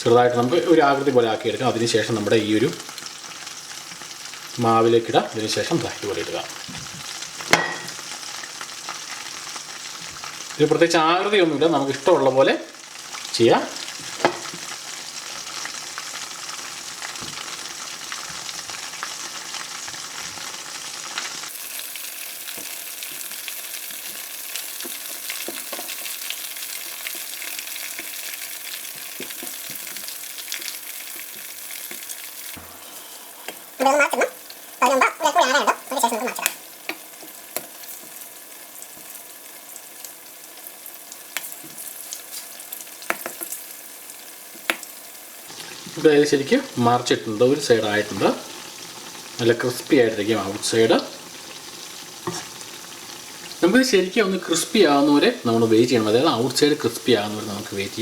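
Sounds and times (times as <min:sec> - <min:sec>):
banana deep-frying in oil: 0:00.0 - 0:58.0.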